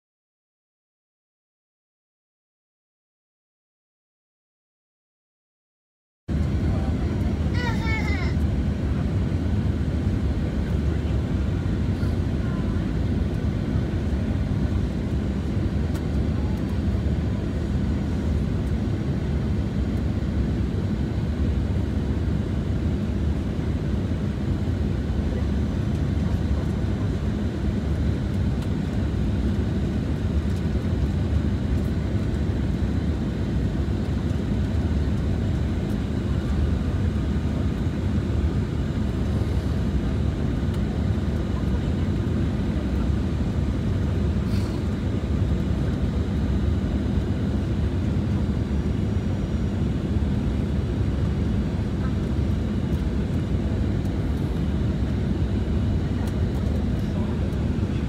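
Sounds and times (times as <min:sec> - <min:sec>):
airliner cabin engine roar: 0:06.3 - 0:58.0.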